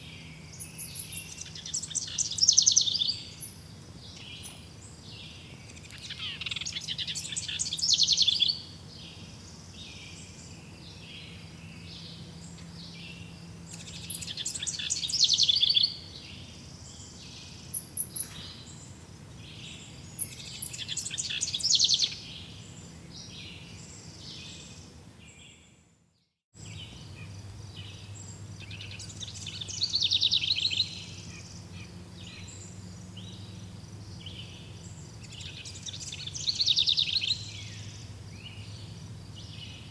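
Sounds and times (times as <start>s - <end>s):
songbird trilling: 0.0s - 8.7s, 9.8s - 24.8s, 26.6s - 39.9s
forest ambience hush: 0.0s - 25.8s, 26.6s - 39.9s.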